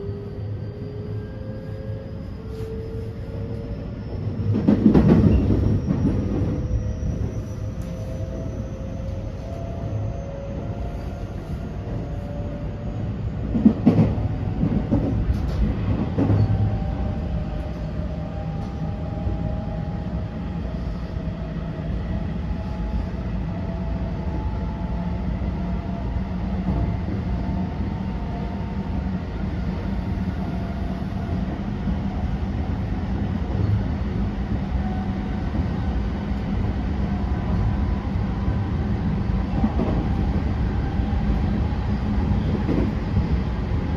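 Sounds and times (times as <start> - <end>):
train wheel and rail rumble: 0.0 - 43.9.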